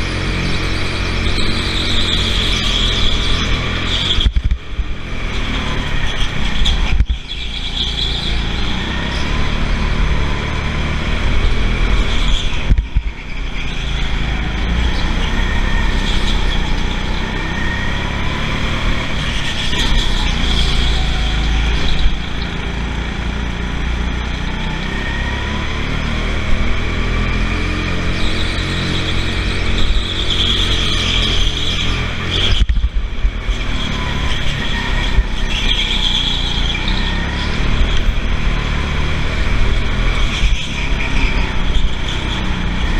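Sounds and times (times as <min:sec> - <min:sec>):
go-kart motor: 0:00.0 - 0:42.9.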